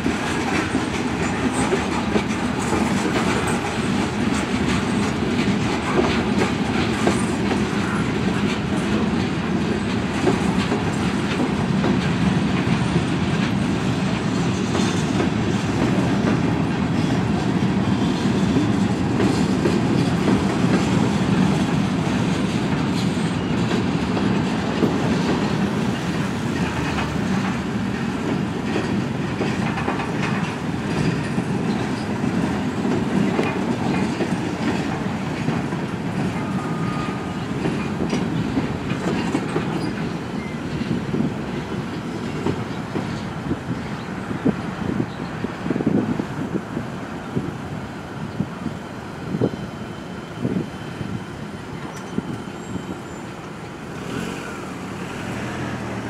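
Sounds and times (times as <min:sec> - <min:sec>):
train wheels clattering over rails: 0:00.0 - 0:56.0.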